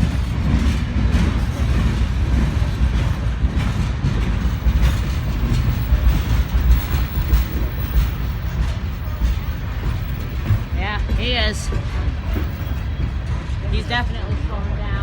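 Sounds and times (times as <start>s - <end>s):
faint knocks from train cars: 0.0s - 13.6s
freight train rumbling past: 0.0s - 15.0s.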